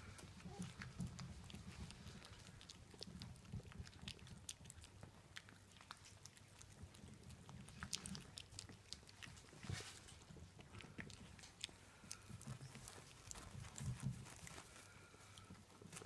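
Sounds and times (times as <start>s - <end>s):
puppies crunching kibble: 0.0s - 16.0s.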